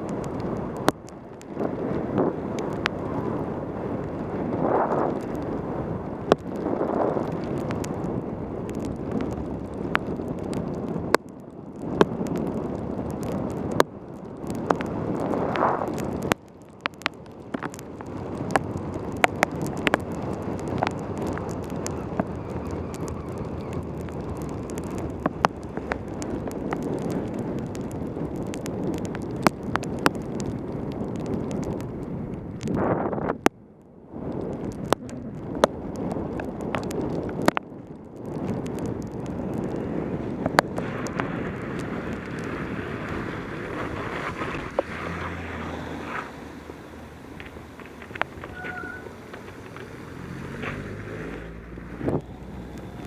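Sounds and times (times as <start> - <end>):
rain noise: 0.0 - 53.0
wind noise on microphone: 0.0 - 53.0.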